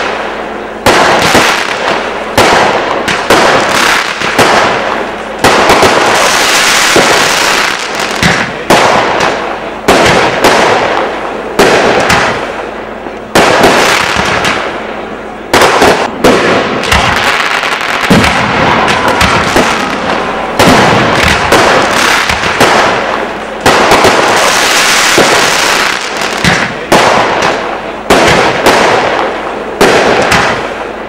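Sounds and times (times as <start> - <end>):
fireworks bangs: 0.0 - 31.0
hiss of burning fireworks: 0.0 - 31.0.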